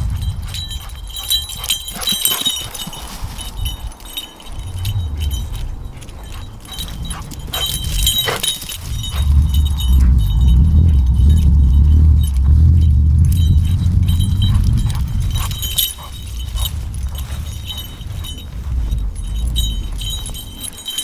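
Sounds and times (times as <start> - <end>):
small metal pieces jingling: 0.0 - 21.0
wind rumble on microphone: 0.0 - 21.0.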